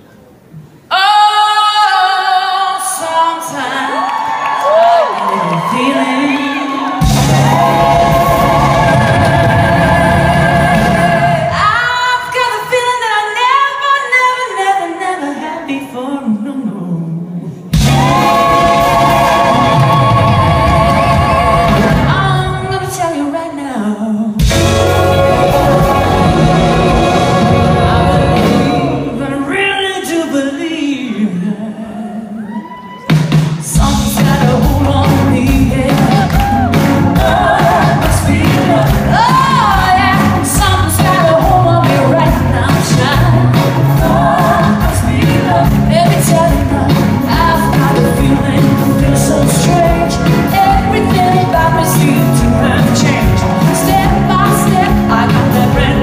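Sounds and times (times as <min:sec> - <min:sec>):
live pop band playing and singing: 0:02.5 - 0:15.2, 0:15.8 - 0:56.0.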